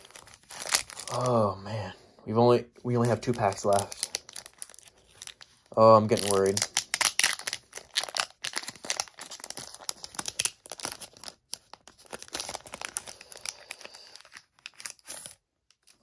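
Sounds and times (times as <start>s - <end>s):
foil wrapper tearing and crinkling: 0.0s - 1.5s, 2.9s - 16.0s.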